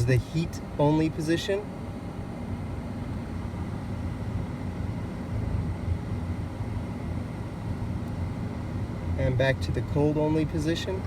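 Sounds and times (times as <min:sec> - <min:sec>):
car blower fan running: 0:00.0 - 0:11.0.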